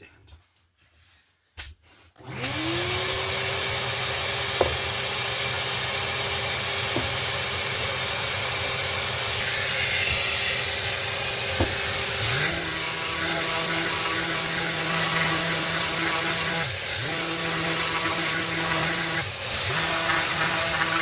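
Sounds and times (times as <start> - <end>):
orbital sander motor whine: 2.2 - 21.0.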